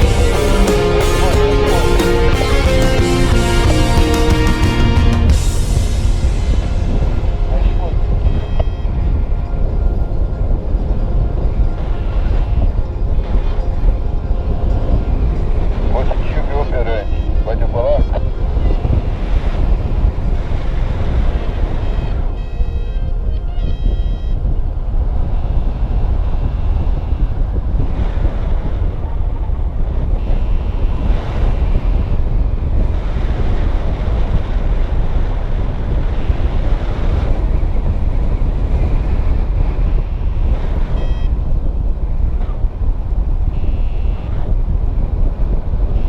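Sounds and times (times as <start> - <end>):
wind buffeting microphone: 5.3 - 46.0.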